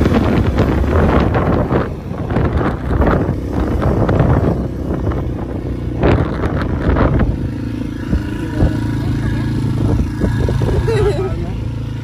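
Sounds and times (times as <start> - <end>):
vehicle and road rumble: 0.0 - 12.0
wind buffeting microphone: 0.0 - 12.0.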